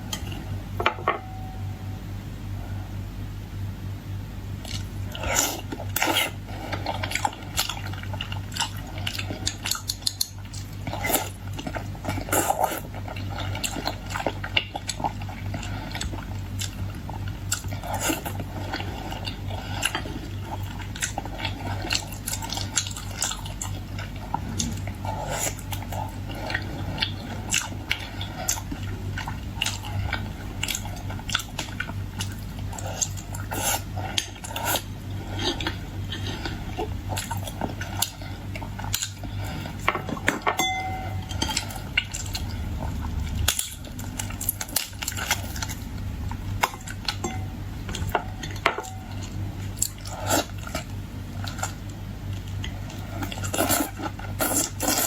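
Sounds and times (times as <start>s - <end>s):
steady low hum: 0.0s - 55.0s
biting and chewing: 4.6s - 55.0s.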